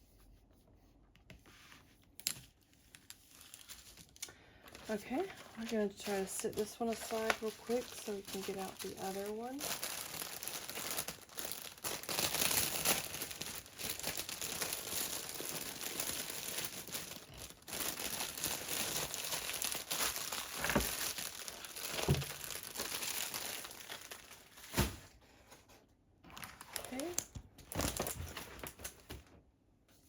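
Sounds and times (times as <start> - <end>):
plastic packaging crinkling: 2.9 - 25.0, 26.3 - 29.2.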